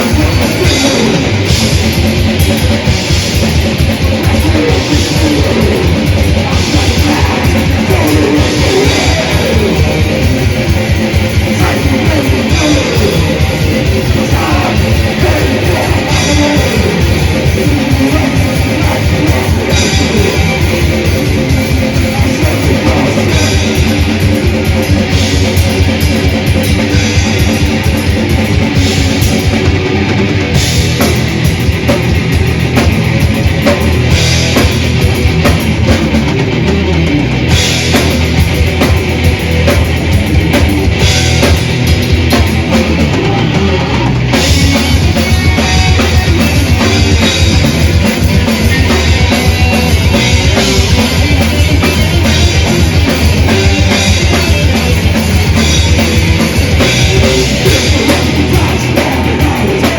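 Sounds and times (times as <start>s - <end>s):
distorted electric guitars and bass: 0.0s - 59.9s
fast driving drumming: 0.0s - 59.9s.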